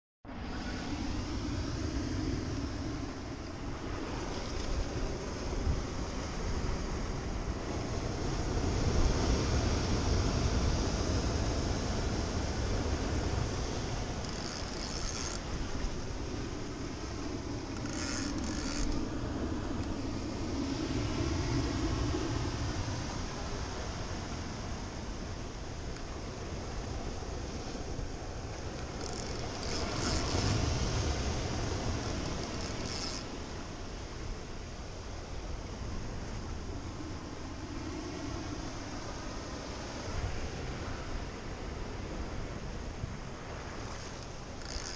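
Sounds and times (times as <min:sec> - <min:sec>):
ocean surf on rocky shore: 0:00.3 - 0:44.9
wind buffeting microphone: 0:00.3 - 0:44.9.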